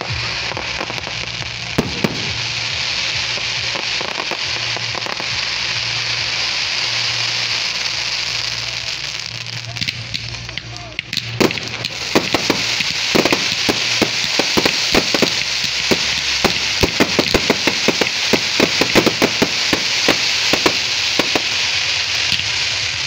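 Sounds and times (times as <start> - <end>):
fireworks bangs: 0.0 - 23.0
fireworks crackling hiss: 0.0 - 23.0.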